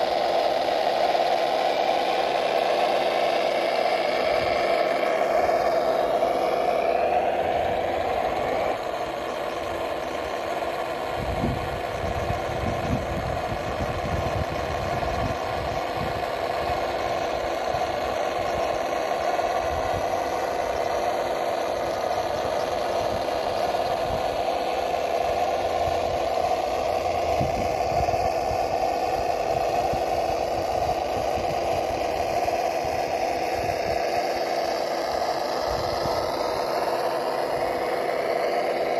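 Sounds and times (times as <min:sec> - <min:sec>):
simulated truck engine from speaker: 0:00.0 - 0:38.9.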